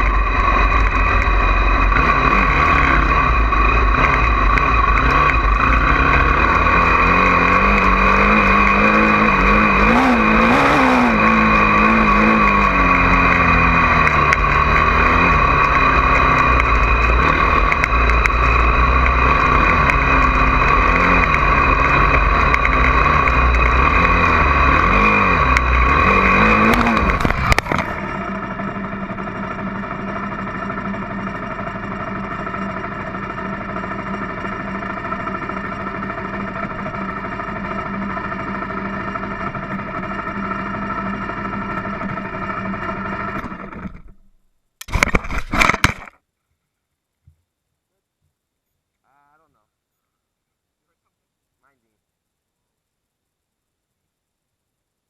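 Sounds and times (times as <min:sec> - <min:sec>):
dirt bike engine revving: 0:00.0 - 0:44.2.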